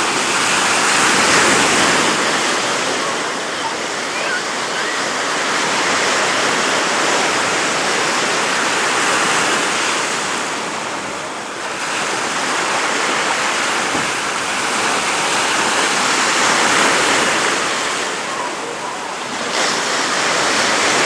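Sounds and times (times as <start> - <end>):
sea surf breaking: 0.0 - 21.0.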